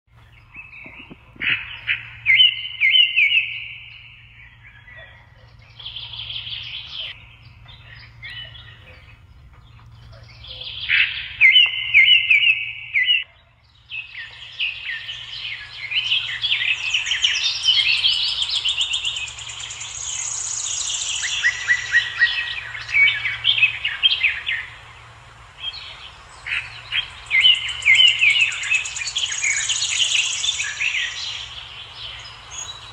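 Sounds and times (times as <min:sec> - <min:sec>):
steady low hum: 0:00.1 - 0:32.9
birds chirping and singing: 0:00.2 - 0:32.9.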